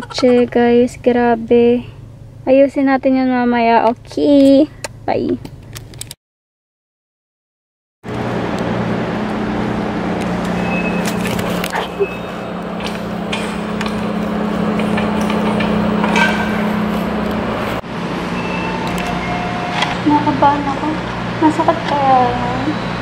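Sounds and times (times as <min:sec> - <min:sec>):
steady low hum: 0:00.0 - 0:06.0, 0:08.1 - 0:23.0.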